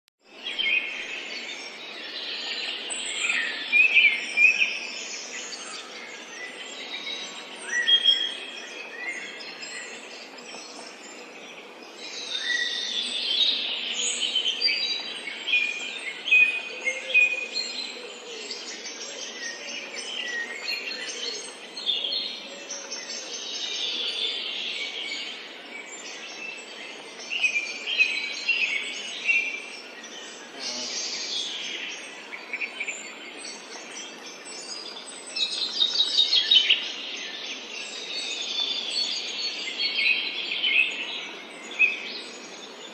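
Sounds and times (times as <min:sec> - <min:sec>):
songbirds chirping and trilling: 0:00.2 - 0:42.9
faint background hiss: 0:00.3 - 0:42.9.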